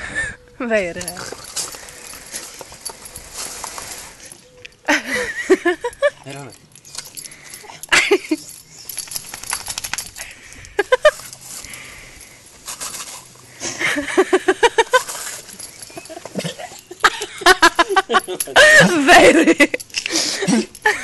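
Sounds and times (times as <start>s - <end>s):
metal leash clip jingling: 0.9s - 13.3s, 14.7s - 21.0s.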